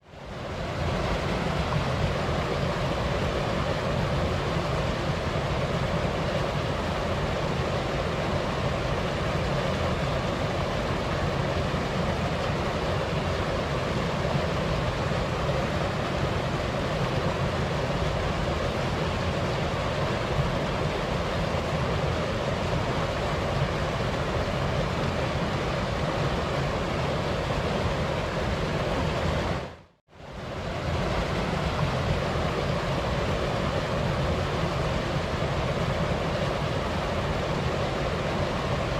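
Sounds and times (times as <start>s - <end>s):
light wind: 0.0s - 38.9s
waterfall rushing: 0.3s - 38.9s.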